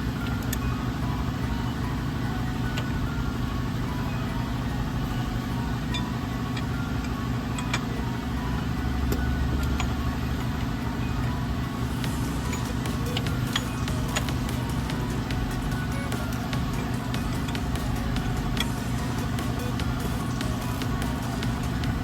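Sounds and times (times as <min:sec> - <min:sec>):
low mechanical drone: 0:00.0 - 0:22.0.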